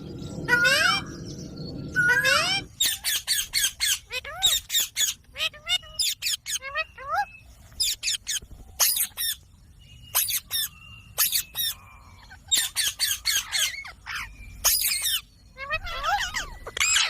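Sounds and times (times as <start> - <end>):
parakeet squawking: 2.0 - 9.4, 10.1 - 17.0.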